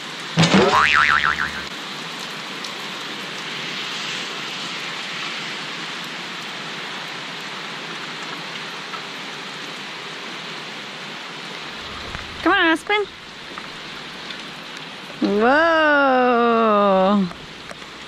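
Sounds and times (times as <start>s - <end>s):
rain on a wooden deck: 0.0s - 0.4s, 1.7s - 18.0s.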